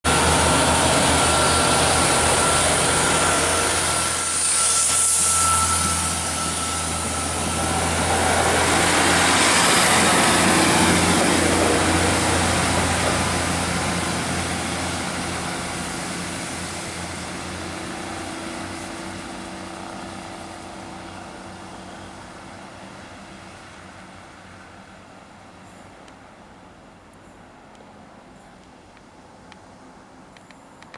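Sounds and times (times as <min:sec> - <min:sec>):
diesel train pulling away: 0:00.1 - 0:26.0.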